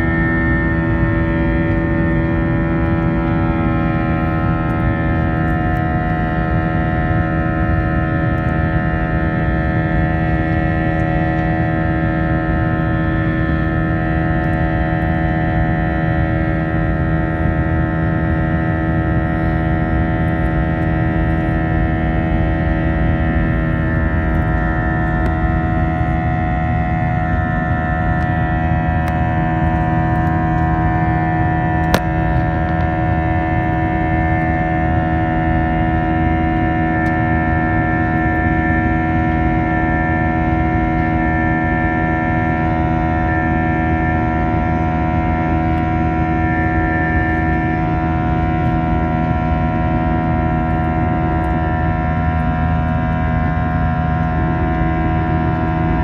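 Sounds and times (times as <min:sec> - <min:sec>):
droning engine tones: 0:00.0 - 0:56.0
jet cabin roar: 0:00.0 - 0:56.0.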